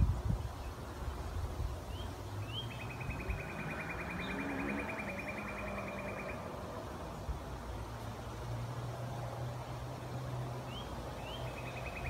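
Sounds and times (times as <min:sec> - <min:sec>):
songbird chirps and trill: 0:00.0 - 0:08.2, 0:09.5 - 0:12.0
low rumble of wind or traffic: 0:00.0 - 0:12.0.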